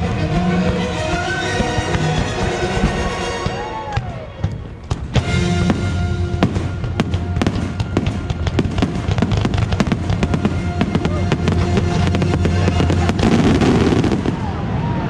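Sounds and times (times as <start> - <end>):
music holding sustained chords: 0.0 - 4.0, 5.2 - 14.3
fireworks bangs and crackles: 0.7 - 15.0.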